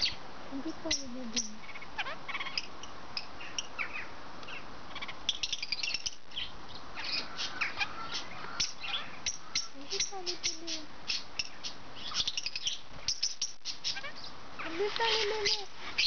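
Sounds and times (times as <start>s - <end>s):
parakeets chirping: 0.0s - 16.0s.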